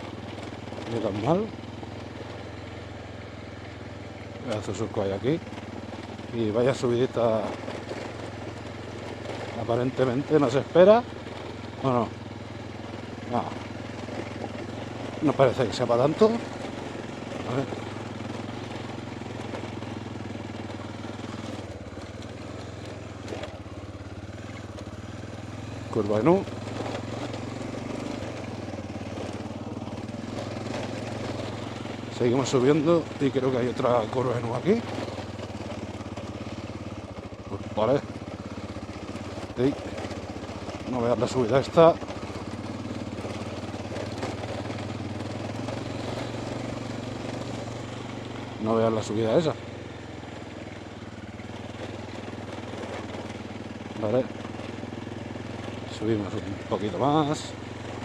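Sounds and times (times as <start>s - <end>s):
motorcycle engine under load: 0.0s - 58.0s.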